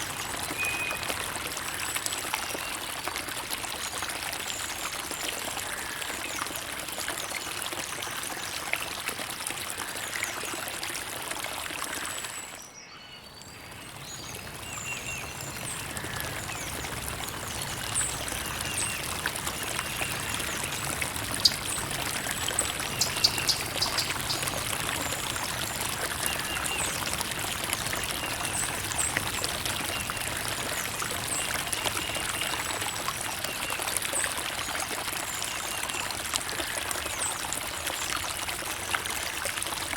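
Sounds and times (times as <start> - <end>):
water trickling over rocks: 0.0 - 12.7, 13.3 - 39.9.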